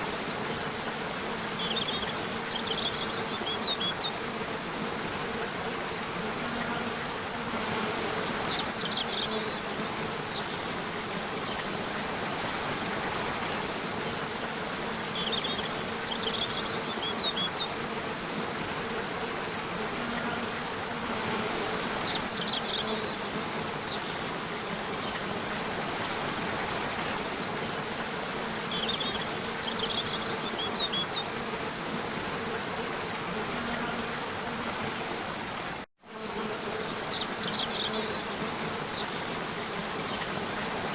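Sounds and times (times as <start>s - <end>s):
insect buzz: 0.0s - 40.9s
natural ambience hiss: 0.0s - 40.9s.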